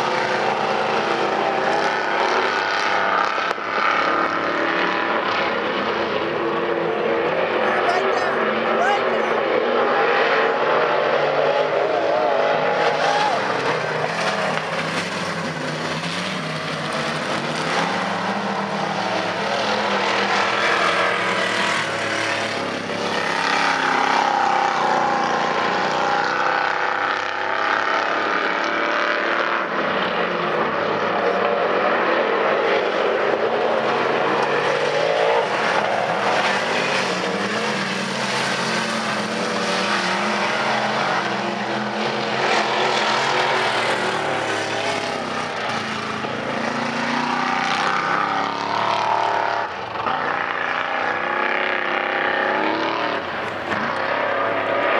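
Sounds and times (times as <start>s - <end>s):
race car engines running hard: 0.0s - 54.9s.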